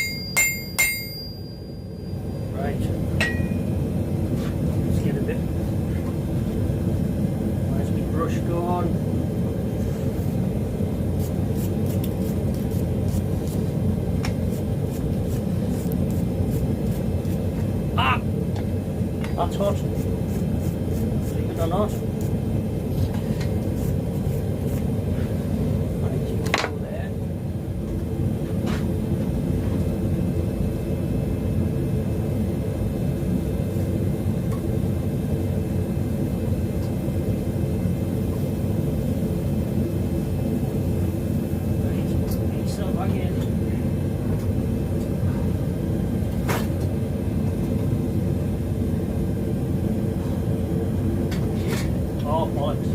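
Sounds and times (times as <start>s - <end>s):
gas forge burner rumbling: 0.0s - 52.9s.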